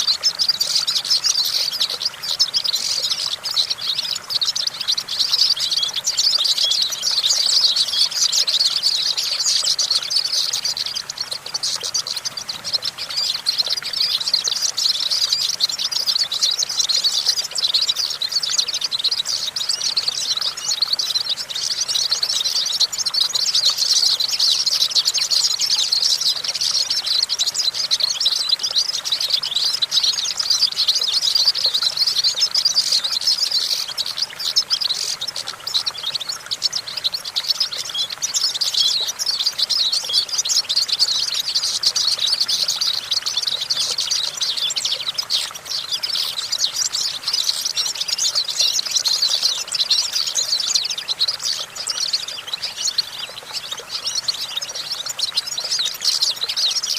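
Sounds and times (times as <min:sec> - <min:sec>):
bird twittering and trilling: 0:00.0 - 0:56.9.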